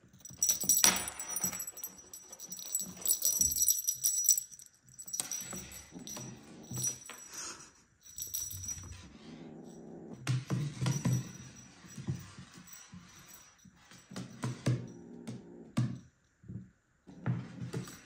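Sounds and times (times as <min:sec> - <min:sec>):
light metallic jingling: 0:00.0 - 0:15.1.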